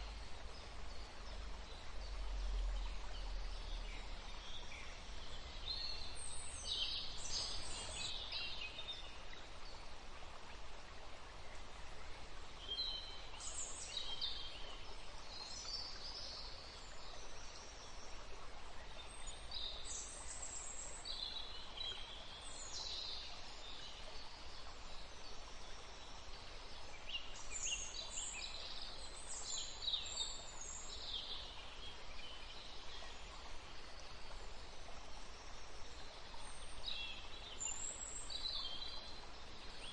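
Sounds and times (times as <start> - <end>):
steady green noise hiss: 0.0 - 39.9.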